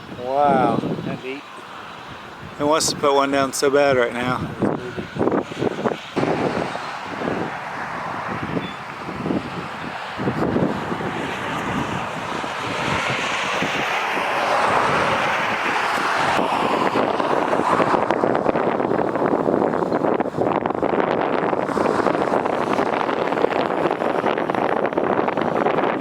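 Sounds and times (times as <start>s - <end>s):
wind rushing across microphone: 0.0s - 26.0s.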